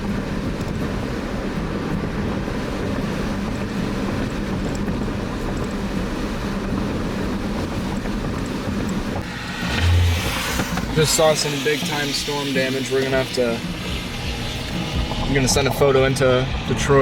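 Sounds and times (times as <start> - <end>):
car road noise from inside: 0.0 - 17.0.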